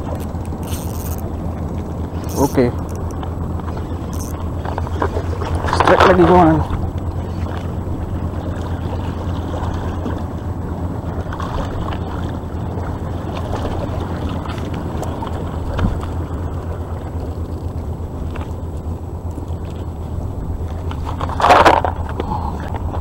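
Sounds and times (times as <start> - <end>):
waves lapping against rocks: 0.0 - 18.7, 19.4 - 23.0
wind buffeting microphone: 0.0 - 23.0.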